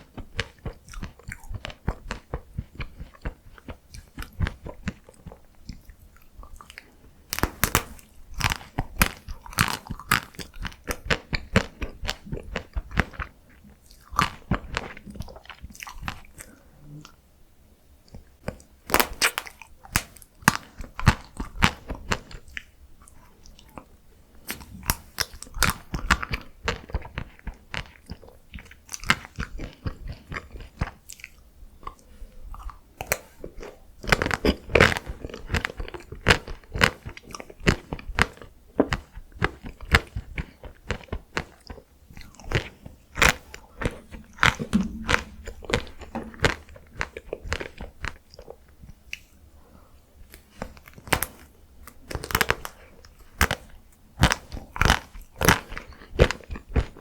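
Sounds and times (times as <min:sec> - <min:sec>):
crunchy ice cream chewing: 0:00.0 - 0:17.2, 0:24.5 - 0:49.4, 0:50.2 - 0:57.0.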